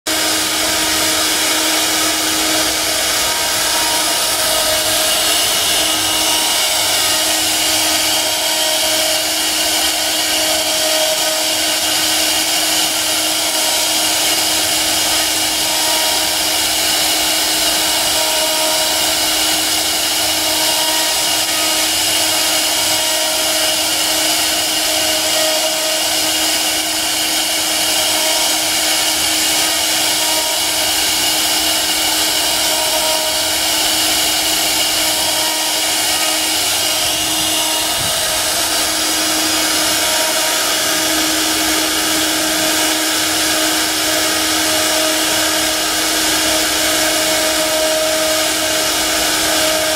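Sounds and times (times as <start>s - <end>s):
hiss of router cutting: 0.1s - 49.9s
wood router machine tone: 0.1s - 49.9s.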